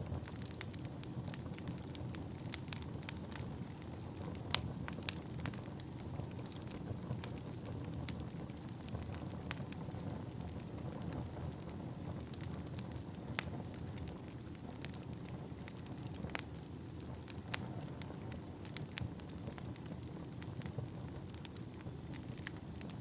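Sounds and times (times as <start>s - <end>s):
burning wood crackling and popping: 0.0s - 23.0s
low rumble of flames: 0.0s - 23.0s.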